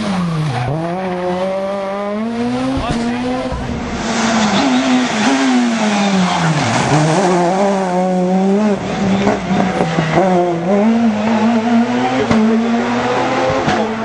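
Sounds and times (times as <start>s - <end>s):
car engine at high revs: 0.0s - 14.0s
tyres sliding on road: 0.0s - 14.0s.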